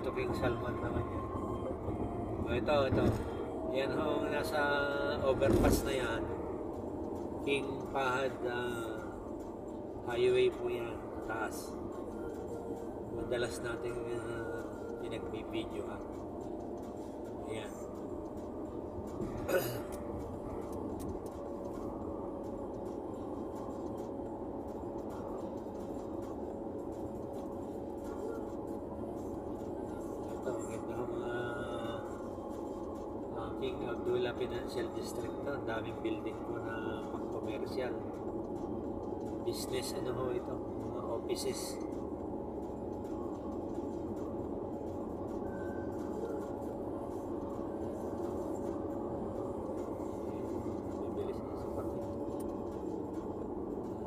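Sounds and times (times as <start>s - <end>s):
car cabin road and engine noise: 0.0s - 54.0s
faint steady hum: 0.0s - 54.0s.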